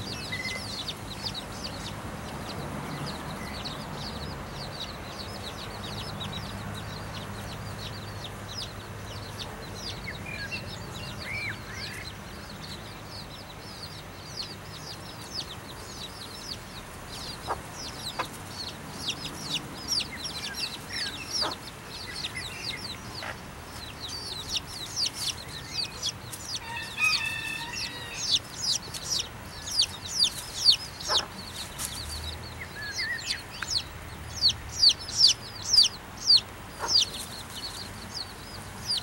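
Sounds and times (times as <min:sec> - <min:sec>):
chick peeping: 0:00.0 - 0:39.0.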